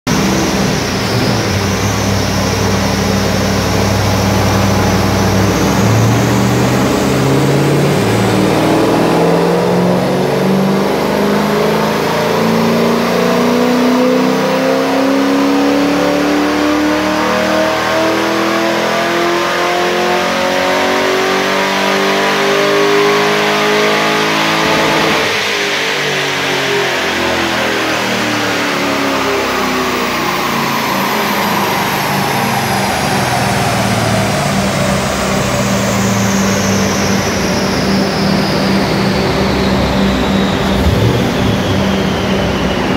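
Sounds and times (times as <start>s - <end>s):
car engine revving on dyno: 0.0s - 42.9s.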